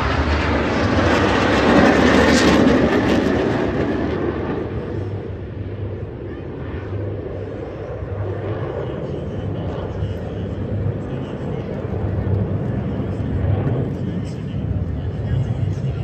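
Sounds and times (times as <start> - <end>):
jet engines roaring past: 0.0 - 16.0.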